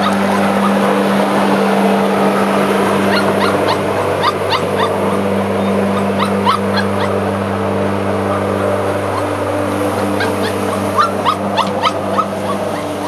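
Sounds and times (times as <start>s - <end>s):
puppies yipping and whimpering: 0.0s - 7.4s, 8.2s - 13.0s
lawnmower running: 0.0s - 13.0s.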